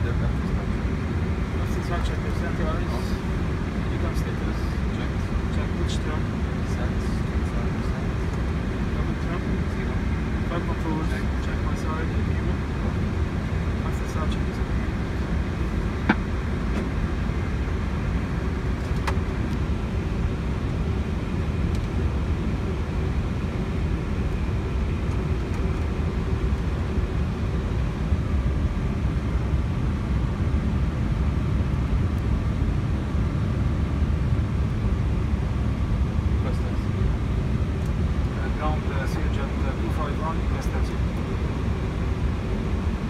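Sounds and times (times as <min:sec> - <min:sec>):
low rumble of cockpit noise: 0:00.0 - 0:43.0.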